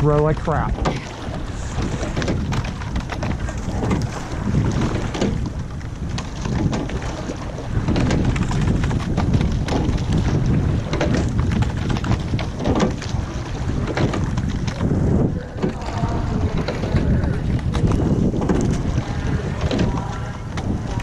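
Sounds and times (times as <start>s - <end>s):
oars knocking in oarlocks: 0.0s - 21.0s
wind buffeting microphone: 0.0s - 21.0s.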